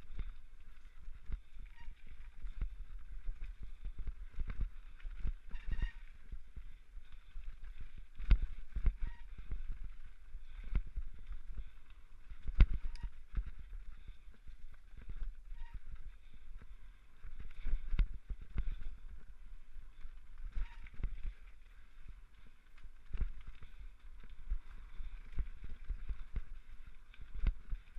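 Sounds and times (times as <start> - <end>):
wind rumble on microphone: 0.0 - 27.9.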